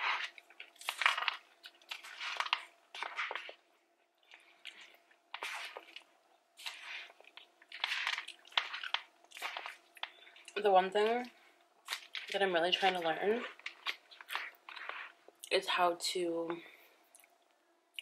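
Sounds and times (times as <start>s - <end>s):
chewing and crunching food: 0.0s - 15.6s, 16.7s - 18.0s.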